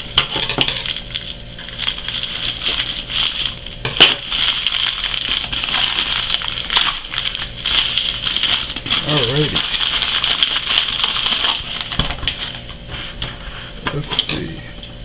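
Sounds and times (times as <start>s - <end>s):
packaging crinkling: 0.0s - 14.3s.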